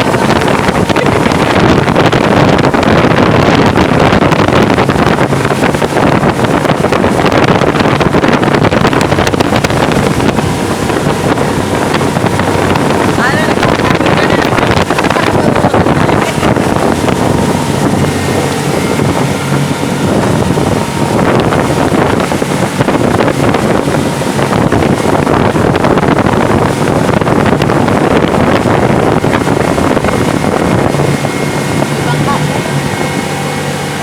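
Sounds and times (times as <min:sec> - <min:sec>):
motorboat engine running: 0:00.0 - 0:34.0
wind buffeting microphone: 0:00.0 - 0:34.0.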